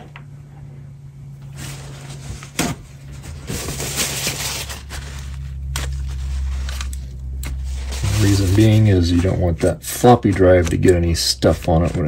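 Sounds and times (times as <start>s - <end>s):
paper towel rustling: 1.4s - 12.0s.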